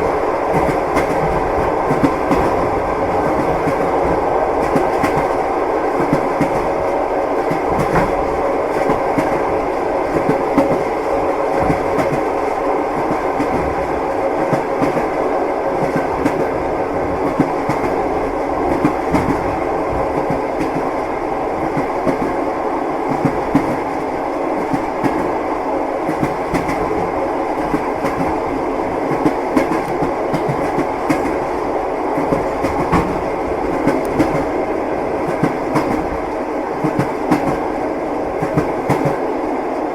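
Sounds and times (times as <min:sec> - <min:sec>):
train wheels clattering on rails: 0:00.0 - 0:22.4, 0:23.0 - 0:25.4, 0:26.0 - 0:39.4.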